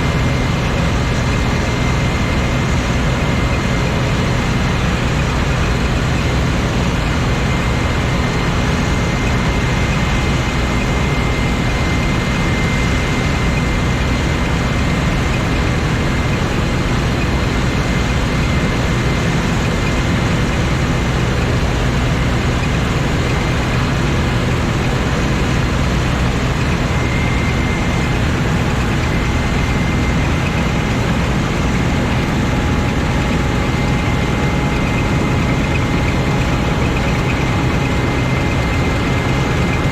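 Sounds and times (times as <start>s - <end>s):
combine harvester droning: 0.0s - 39.9s
high machine whine: 0.0s - 39.9s.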